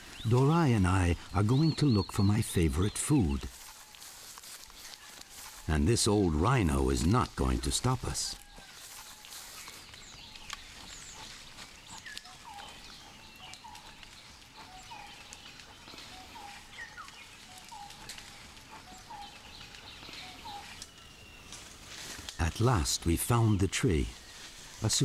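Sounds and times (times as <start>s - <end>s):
birds chirping: 0.0s - 25.0s
forest background hiss: 0.0s - 25.0s.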